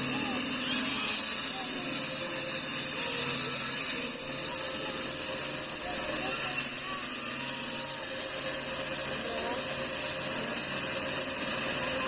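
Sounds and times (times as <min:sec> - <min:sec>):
sawmill running hiss: 0:00.0 - 0:12.0.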